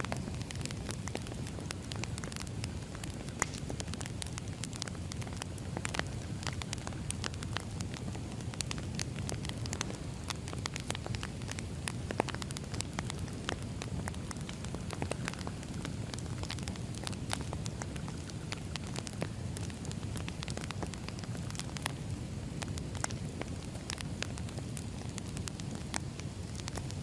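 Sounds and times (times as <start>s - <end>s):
low rush of flame: 0.0s - 27.0s
wood crackling and popping: 0.0s - 27.0s.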